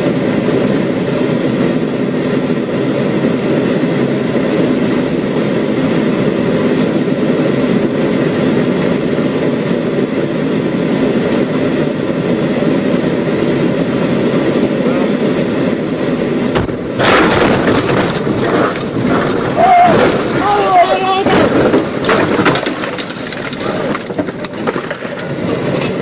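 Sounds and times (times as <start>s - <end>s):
military vehicle engine: 0.0s - 26.0s
road noise inside vehicle: 0.0s - 26.0s.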